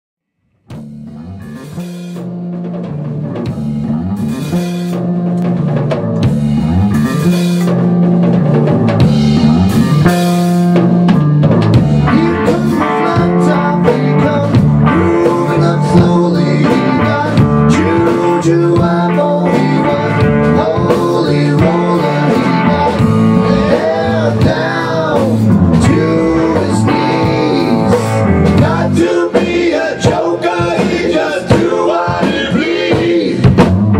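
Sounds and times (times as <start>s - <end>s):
rock band playing blues-rock: 0.8s - 33.9s.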